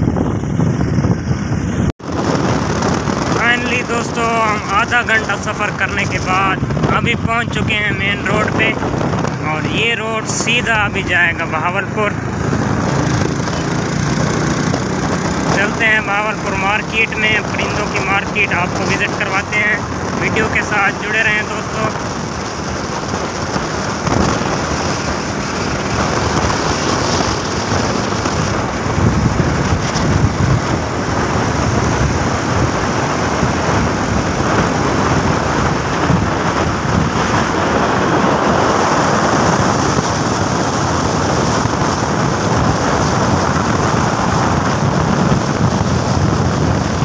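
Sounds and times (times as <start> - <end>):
vehicle engine and tyre noise: 0.0 - 47.0
wind rushing over microphone: 0.0 - 47.0.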